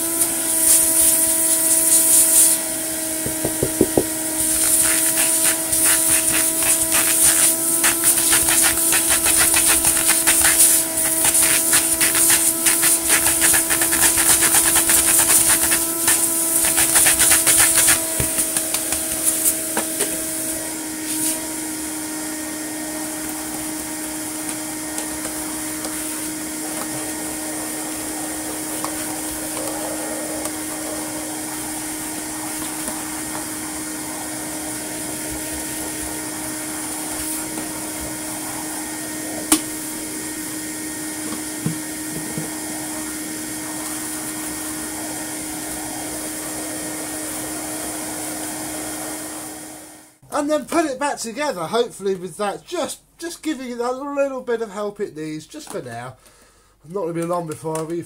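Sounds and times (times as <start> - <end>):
vacuum cleaner running: 0.0 - 50.2.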